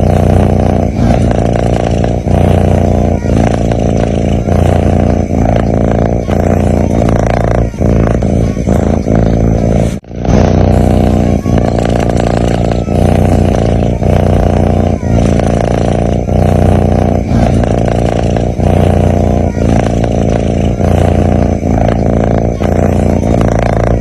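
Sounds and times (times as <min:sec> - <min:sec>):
cat snoring: 0:00.0 - 0:24.0.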